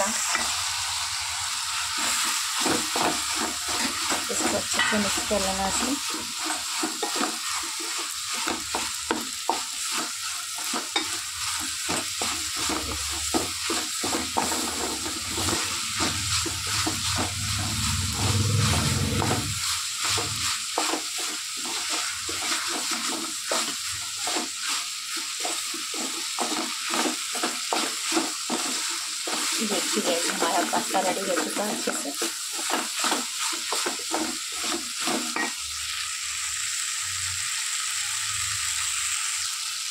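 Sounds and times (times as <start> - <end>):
frying sizzle: 0.0 - 39.9
wooden spoon scraping metal pan: 1.9 - 35.6.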